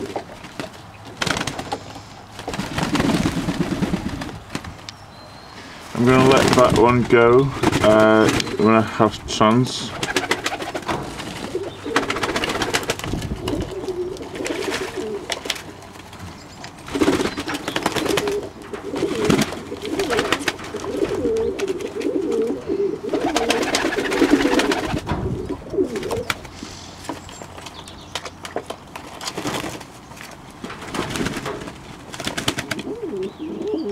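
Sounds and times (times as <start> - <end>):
pigeons cooing: 0.0 - 4.8, 5.5 - 27.3, 31.0 - 33.9
wings flapping: 0.0 - 4.9, 6.0 - 8.8, 9.5 - 33.3.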